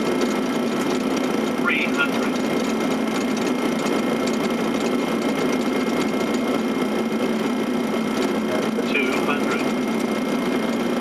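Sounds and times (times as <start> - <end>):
airflow and engine noise: 0.0 - 11.0.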